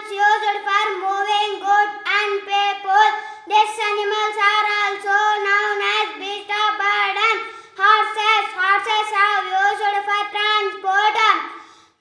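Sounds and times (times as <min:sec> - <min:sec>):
boy reciting in sing-song voice: 0:00.0 - 0:12.0.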